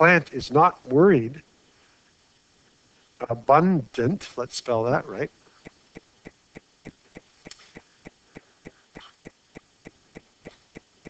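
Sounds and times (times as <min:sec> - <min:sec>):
faint rapid ticking: 0:00.0 - 0:11.0.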